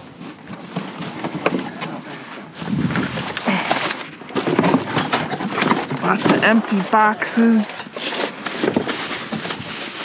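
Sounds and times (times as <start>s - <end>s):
cardboard and trash rustling in dumpster: 0.0s - 10.0s.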